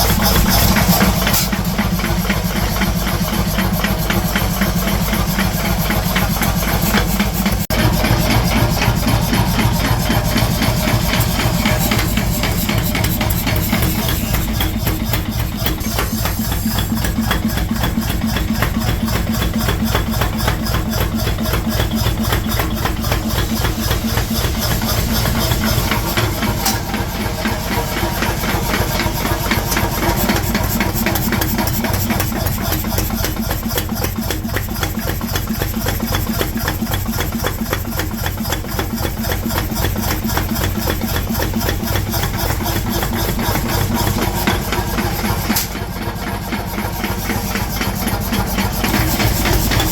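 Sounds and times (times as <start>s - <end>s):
metalworking machinery strokes: 0.0s - 49.9s.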